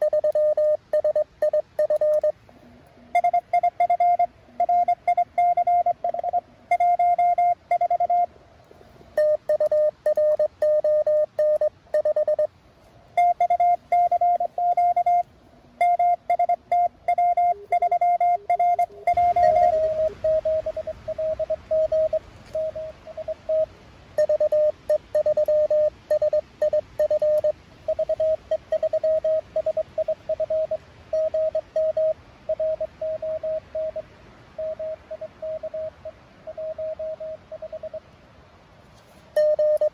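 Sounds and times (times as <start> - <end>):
morse code tones: 0.0 - 8.3, 9.2 - 12.5, 13.1 - 38.0, 39.4 - 39.9
radio receiver hiss: 0.0 - 38.1.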